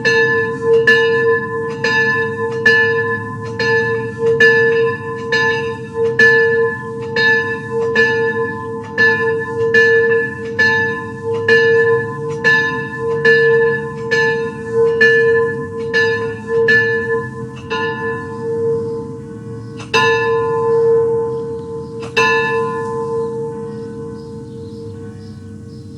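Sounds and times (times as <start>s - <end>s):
bell tolling: 0.0s - 25.7s.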